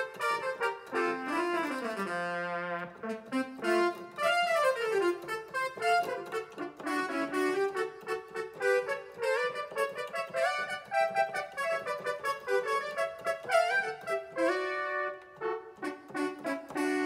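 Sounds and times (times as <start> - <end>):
synthesizer brass melody: 0.1 - 17.0.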